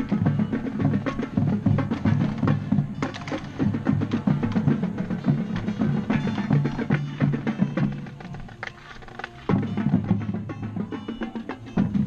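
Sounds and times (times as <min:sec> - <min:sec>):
stick and rim hits: 0:00.0 - 0:10.1
marching drumline cadence: 0:00.0 - 0:12.0.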